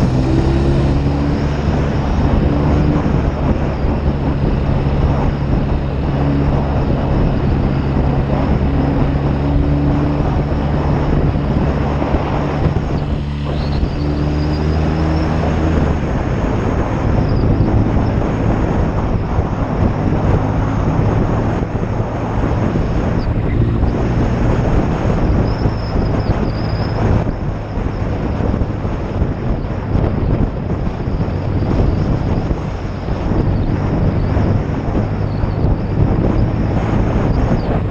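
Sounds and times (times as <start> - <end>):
motorcycle engine running: 0.0 - 37.9
wind rushing over microphone: 0.0 - 37.9.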